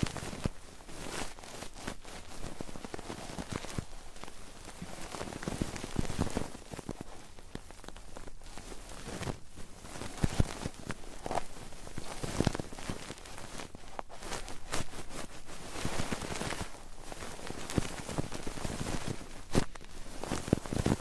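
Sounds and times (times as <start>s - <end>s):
ear rubbing crackling and scratching: 0.0s - 21.0s.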